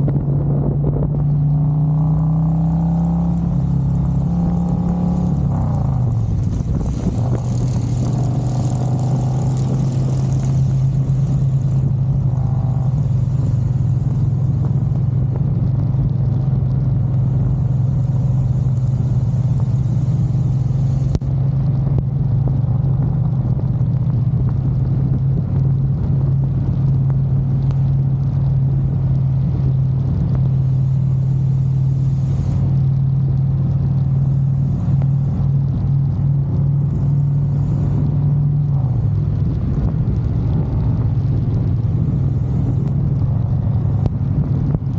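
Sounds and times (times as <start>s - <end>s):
motorcycle engine cruising: 0.0s - 44.9s
wind: 0.0s - 44.9s
road hiss in rain: 1.5s - 44.9s.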